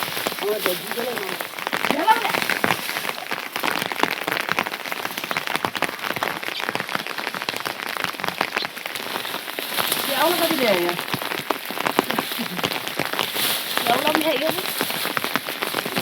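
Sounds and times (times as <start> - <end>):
rain pattering on hard surface: 0.0 - 16.0.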